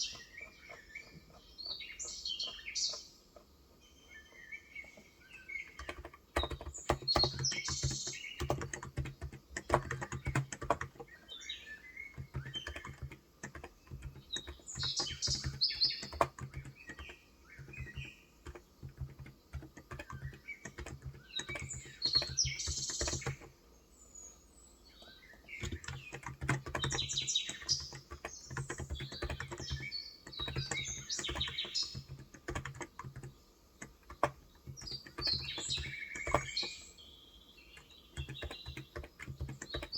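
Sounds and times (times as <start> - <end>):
keyboard typing: 0.0 - 3.6, 4.8 - 11.3, 12.1 - 23.5, 25.0 - 37.0, 37.7 - 39.9
birds chirping: 0.0 - 39.9.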